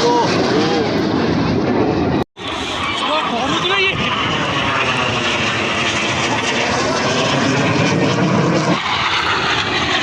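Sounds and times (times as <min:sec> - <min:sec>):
jet engines of flying aircraft: 0:00.0 - 0:10.0.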